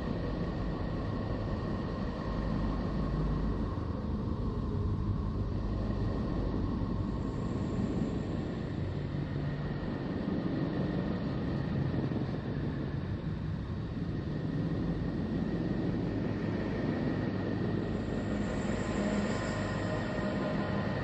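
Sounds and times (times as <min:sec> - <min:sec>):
low rumbling drone: 0:00.0 - 0:21.0.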